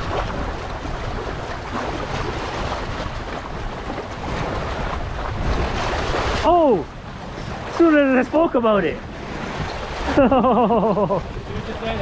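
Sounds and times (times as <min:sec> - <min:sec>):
water washing against rocks: 0:00.0 - 0:10.2
wind rumbling on microphone: 0:00.0 - 0:12.0.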